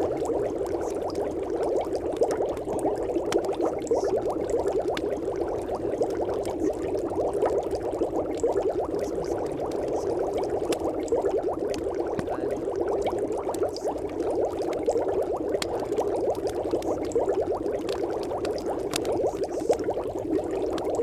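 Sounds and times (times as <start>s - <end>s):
dense bubbling: 0.0s - 21.0s.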